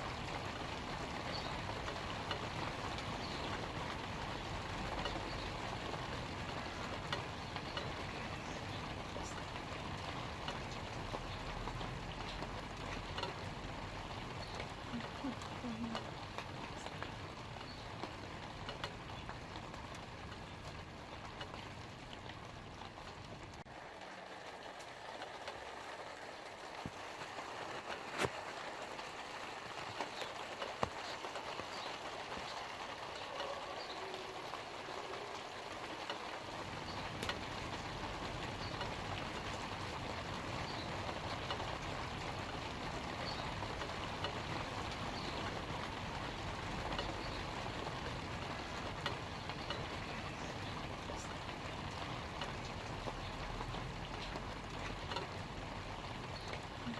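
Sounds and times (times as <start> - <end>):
light rain pattering on leaves: 0.0 - 56.9
water drips: 0.0 - 56.9.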